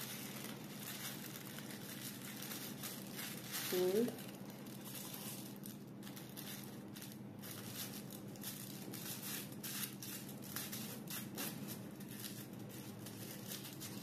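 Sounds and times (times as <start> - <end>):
faint steady hum: 0.0 - 14.0
foil crinkling and rustling: 0.0 - 14.0.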